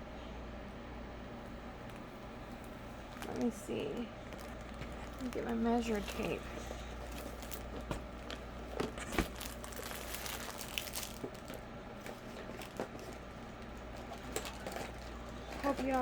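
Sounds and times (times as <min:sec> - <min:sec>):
crinkly rustling: 0:01.5 - 0:16.0.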